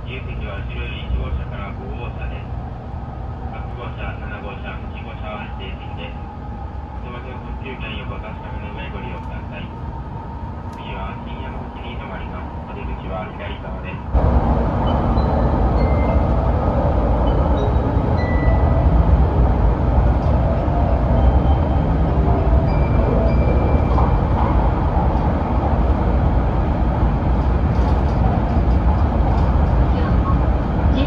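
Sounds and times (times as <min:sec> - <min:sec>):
high-speed train running: 0:00.0 - 0:31.0.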